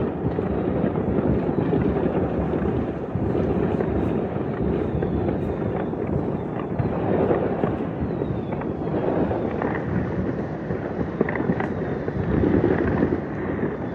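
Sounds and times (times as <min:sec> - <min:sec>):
fireworks rumble: 0:00.0 - 0:13.9.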